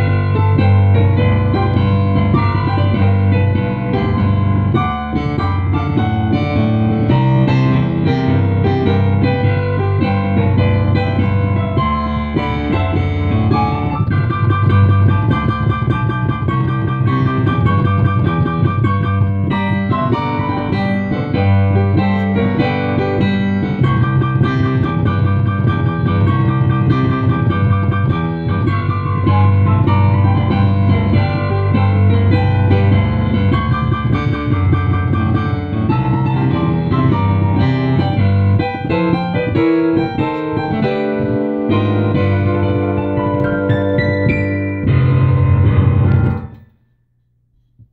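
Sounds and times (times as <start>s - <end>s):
digital piano playing: 0.0s - 46.8s.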